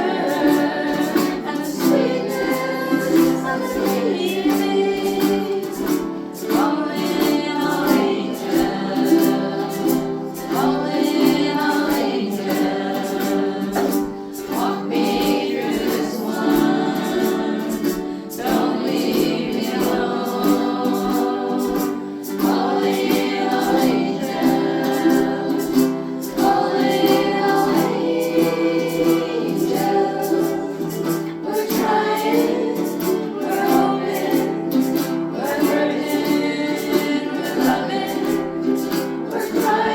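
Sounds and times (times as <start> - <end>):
group of voices singing: 0.0 - 39.9
strummed ukuleles: 0.0 - 39.9.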